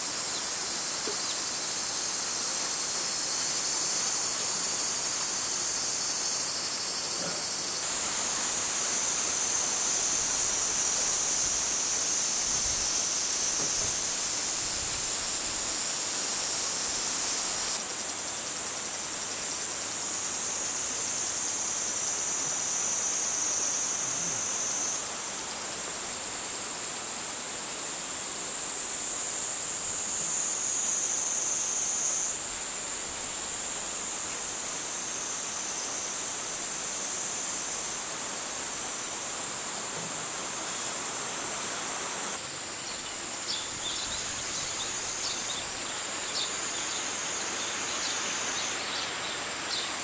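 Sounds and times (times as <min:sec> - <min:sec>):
cicadas chorus: 0:00.0 - 0:50.0.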